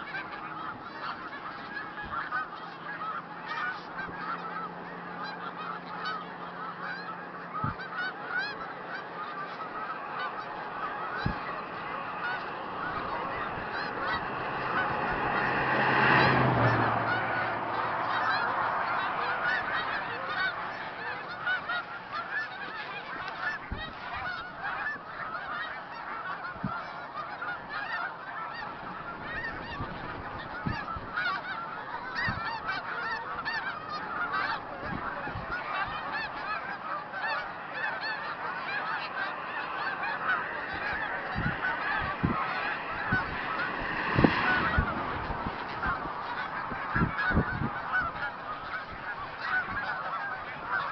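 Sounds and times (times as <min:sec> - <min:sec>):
geese honking: 0:00.0 - 0:50.9.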